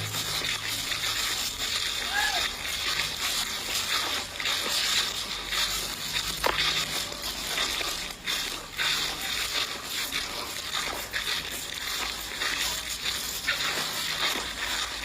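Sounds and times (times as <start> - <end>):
water splashing: 0.0 - 15.0.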